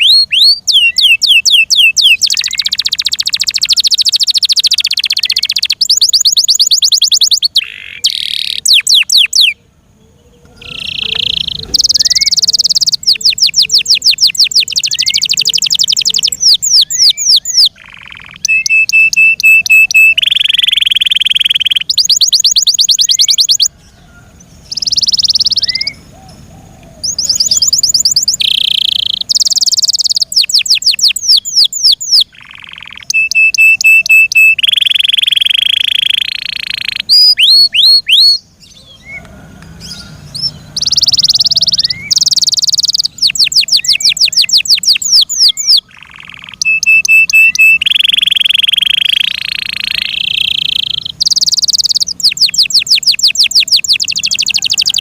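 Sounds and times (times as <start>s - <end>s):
canary singing: 0.0s - 55.0s.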